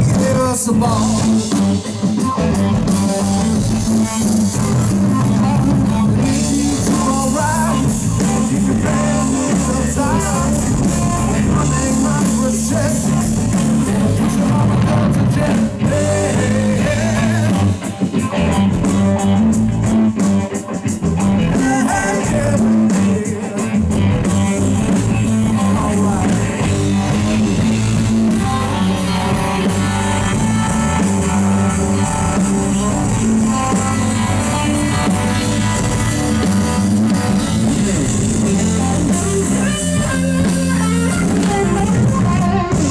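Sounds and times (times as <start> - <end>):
bass guitar: 0.0 - 42.9
drum kit with cymbals: 0.0 - 42.9
electric guitar: 0.0 - 42.9.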